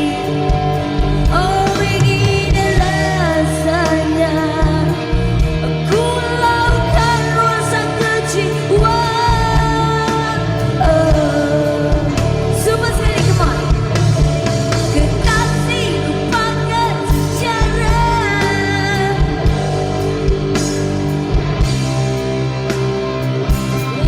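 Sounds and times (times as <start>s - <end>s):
woman singing: 0.0s - 20.6s
rock band backing: 0.0s - 24.0s.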